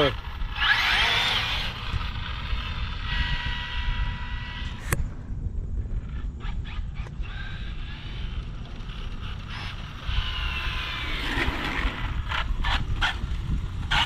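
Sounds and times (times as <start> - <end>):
rc car motor whining: 0.0 - 5.0, 6.0 - 14.0.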